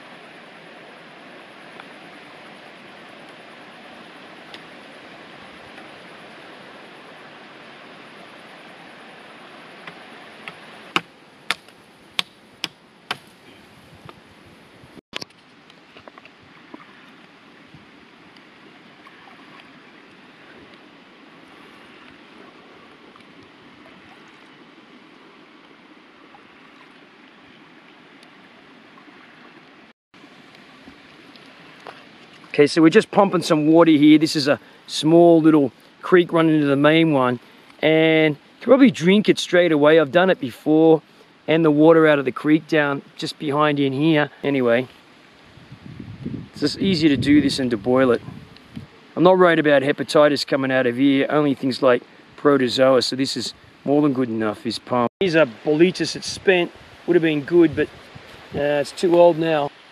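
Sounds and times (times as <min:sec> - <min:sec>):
creek water flowing: 0:00.0 - 0:59.9
steady background hiss: 0:00.0 - 0:59.9.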